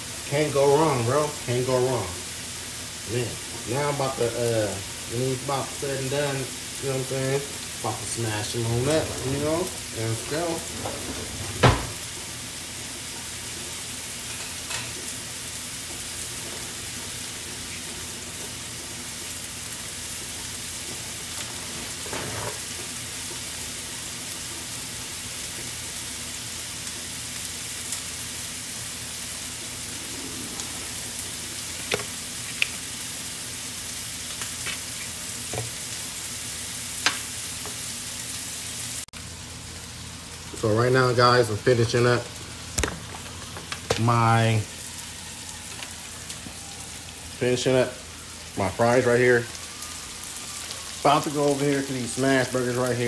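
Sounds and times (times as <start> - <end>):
potatoes sizzling in hot oil: 0.0 - 53.0.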